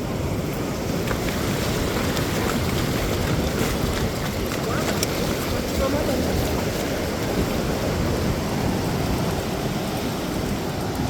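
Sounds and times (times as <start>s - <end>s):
ocean surf: 0.0s - 11.0s
wind rumbling on microphone: 0.0s - 11.0s.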